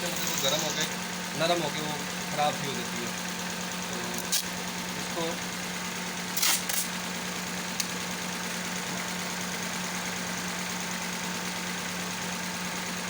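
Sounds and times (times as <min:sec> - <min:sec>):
car engine idling with misfire: 0:00.0 - 0:13.0.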